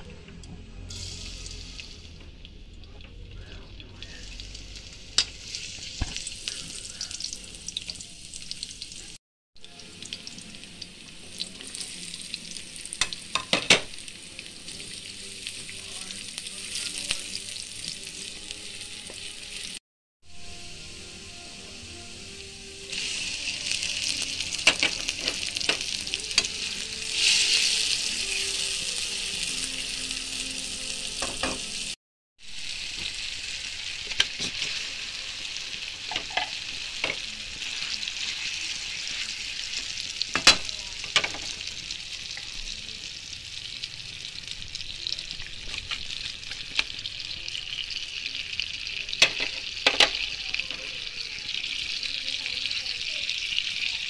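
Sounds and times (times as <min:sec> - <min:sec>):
food sizzling in hot oil: 0:00.9 - 0:54.0.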